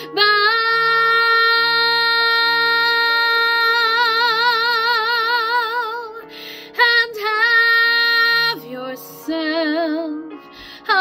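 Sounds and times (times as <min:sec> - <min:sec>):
soft instrumental accompaniment: 0:00.0 - 0:11.0.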